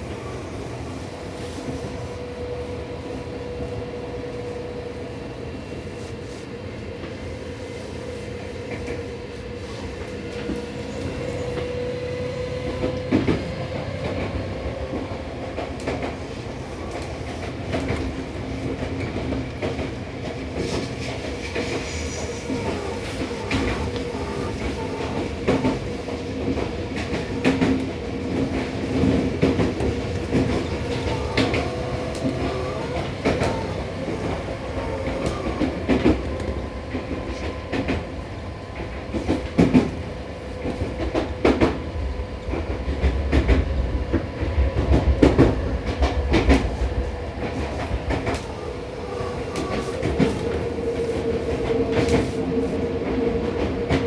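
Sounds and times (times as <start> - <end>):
train motor hum: 0.0 - 54.0
train wheels rumbling: 0.0 - 54.0.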